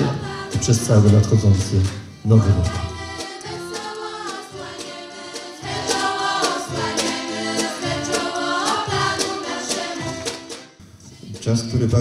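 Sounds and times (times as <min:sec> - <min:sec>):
choir singing: 0:00.0 - 0:10.8
light percussion: 0:00.0 - 0:12.0.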